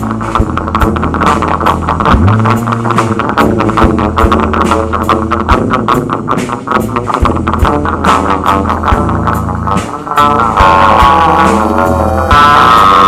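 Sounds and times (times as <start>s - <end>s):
band playing rock music: 0.0s - 13.0s.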